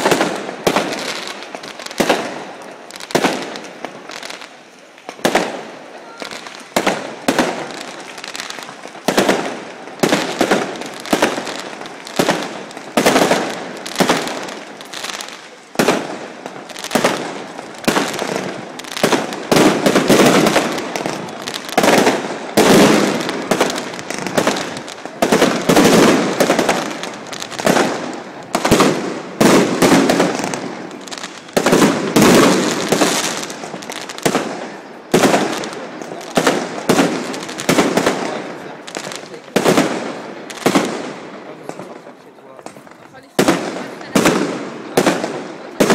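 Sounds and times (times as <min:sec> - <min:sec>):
fireworks shells bursting: 0:00.0 - 0:42.0.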